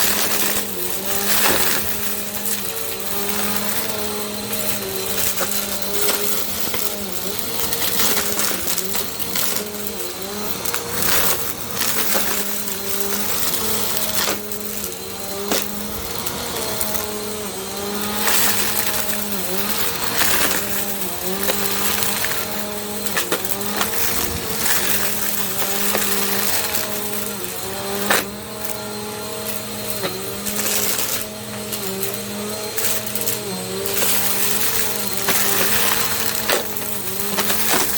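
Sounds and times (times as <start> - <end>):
sharp clicks and crackles: 0.0 - 37.9
vacuum cleaner motor hum: 0.0 - 37.9.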